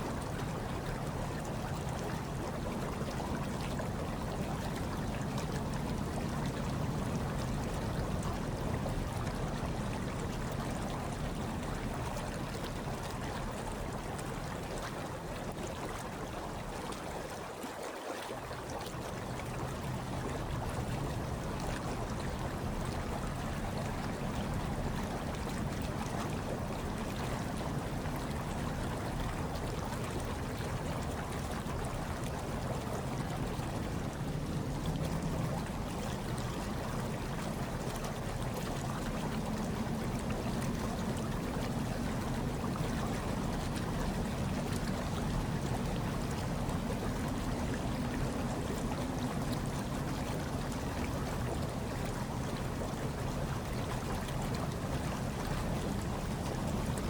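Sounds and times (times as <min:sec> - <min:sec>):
hot tub water churning: 0:00.0 - 0:57.0.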